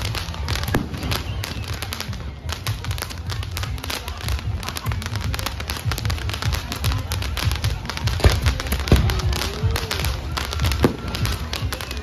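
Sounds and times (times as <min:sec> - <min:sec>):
fireworks cracks and bangs: 0:00.0 - 0:12.0.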